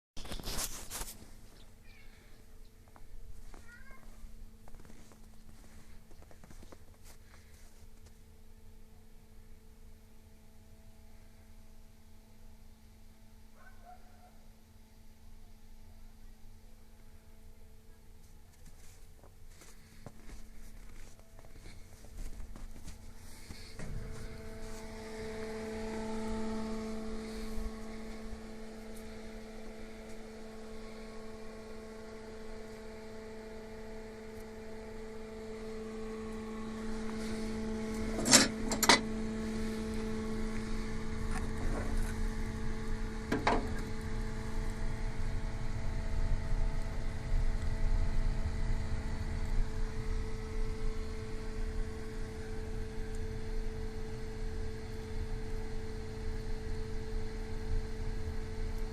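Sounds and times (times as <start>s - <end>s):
boiler humming: 1.2s - 13.7s, 14.4s - 58.9s.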